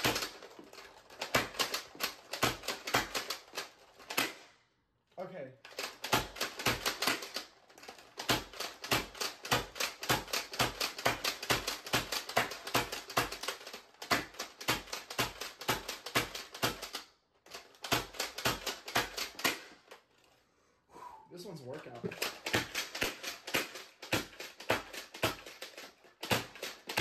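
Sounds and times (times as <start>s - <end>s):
toy blaster plastic clacks: 0.0s - 4.5s, 5.6s - 20.4s, 21.8s - 27.0s.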